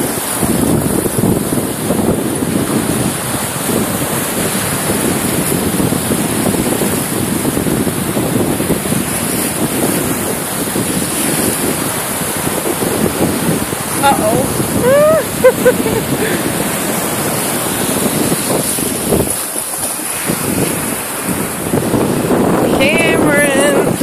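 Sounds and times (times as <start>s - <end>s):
sea waves breaking: 0.0s - 24.0s
wind buffeting microphone: 0.0s - 24.0s.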